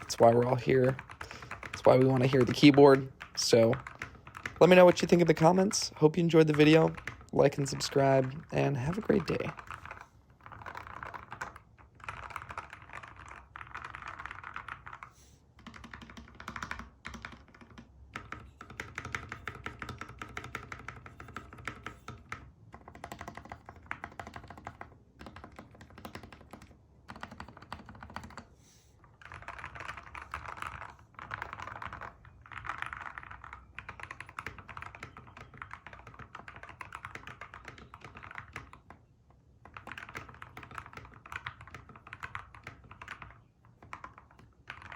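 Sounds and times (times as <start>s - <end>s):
mechanical keyboard typing: 0.0s - 28.5s, 29.1s - 44.9s.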